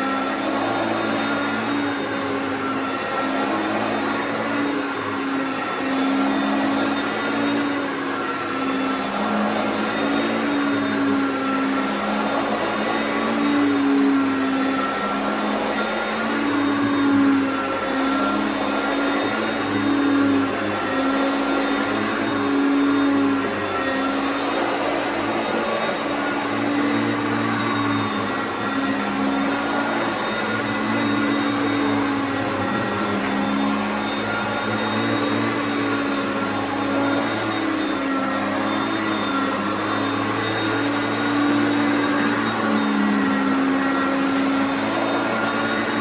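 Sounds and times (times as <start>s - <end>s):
vacuum cleaner motor whine: 0.0s - 46.0s.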